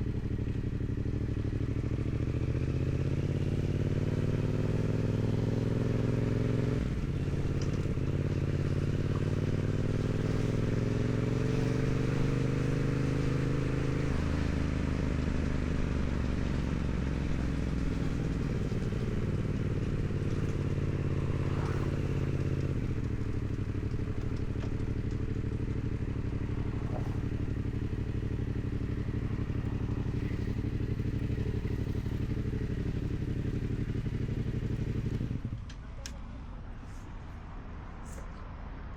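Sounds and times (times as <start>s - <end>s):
motorcycle engine revving: 0.0s - 35.6s.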